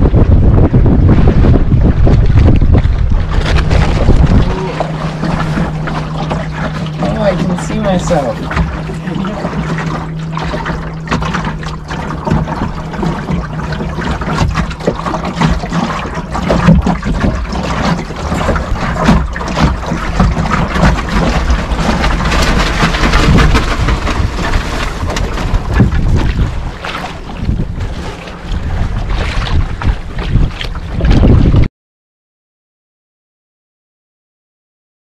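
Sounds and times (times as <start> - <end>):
water slapping against hull: 0.0 - 31.7.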